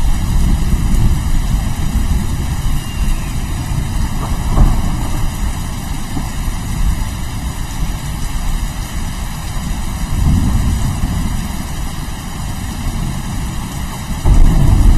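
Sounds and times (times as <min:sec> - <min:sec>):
rain falling: 0:00.0 - 0:14.9
rolling thunder rumble: 0:00.0 - 0:14.9.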